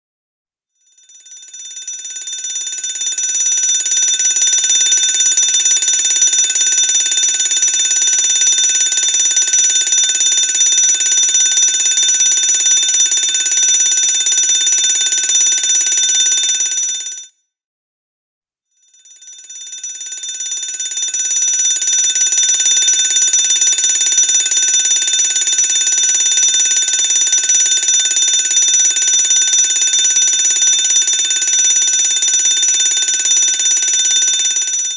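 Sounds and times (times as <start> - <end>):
fire alarm bell ringing: 0.9 - 17.3, 18.9 - 34.9.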